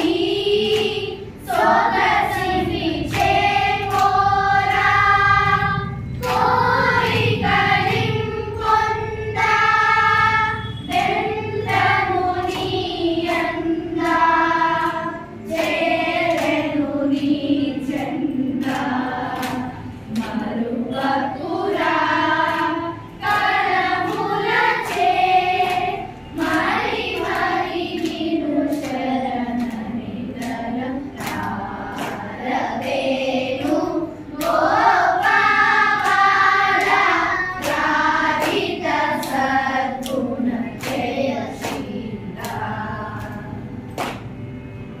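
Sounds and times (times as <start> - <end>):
children and woman singing in unison: 0.0 - 44.2
regular hand claps: 0.0 - 44.9.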